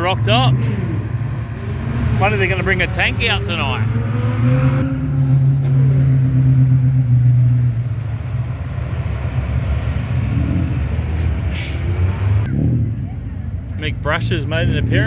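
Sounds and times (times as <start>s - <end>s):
large vehicle engine running: 0.0s - 15.0s.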